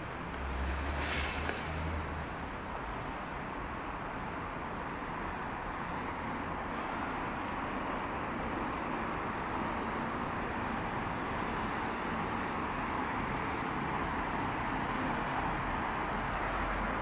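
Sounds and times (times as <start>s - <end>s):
city traffic rush: 0.0s - 17.0s.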